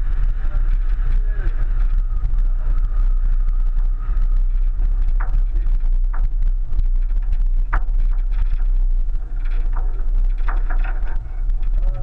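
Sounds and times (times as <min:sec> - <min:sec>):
car rumbling over dirt track: 0:00.0 - 0:12.0.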